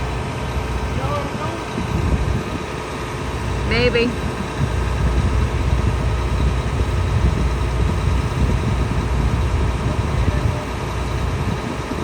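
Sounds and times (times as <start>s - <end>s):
heavy farm vehicle engine rumbling: 0.0s - 12.0s.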